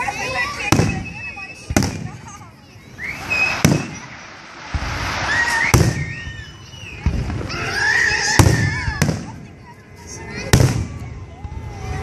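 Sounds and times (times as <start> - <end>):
fireworks booming: 0.6 - 7.7, 8.4 - 9.6, 10.4 - 11.8.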